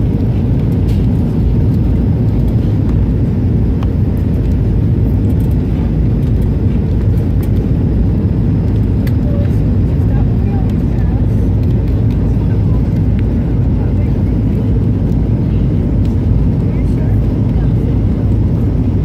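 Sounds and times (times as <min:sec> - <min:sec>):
vehicle rumble from inside: 0:00.0 - 0:19.0.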